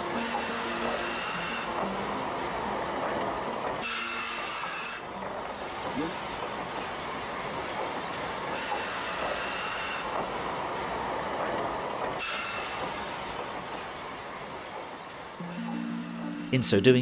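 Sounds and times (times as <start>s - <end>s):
train wheels rumbling on track: 0.0s - 15.9s.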